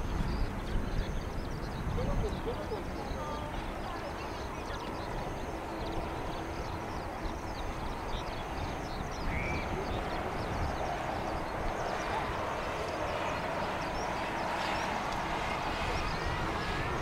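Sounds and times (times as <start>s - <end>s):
birds chirping: 0.0s - 17.0s
distant jet engines rumbling: 0.0s - 17.0s.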